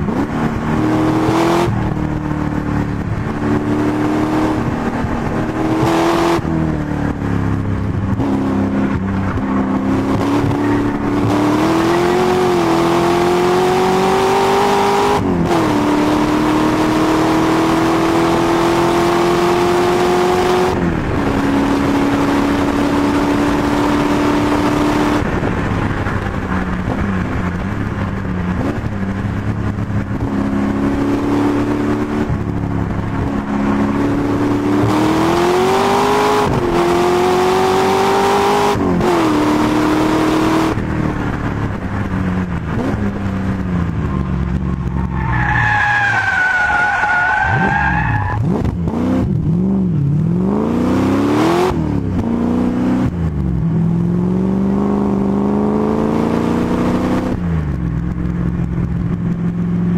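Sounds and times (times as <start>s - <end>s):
race car engine accelerating: 0.0s - 58.4s.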